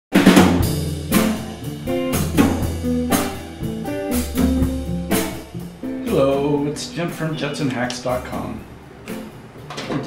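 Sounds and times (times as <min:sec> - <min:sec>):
instrumental music with steady beat: 0:00.1 - 0:10.0.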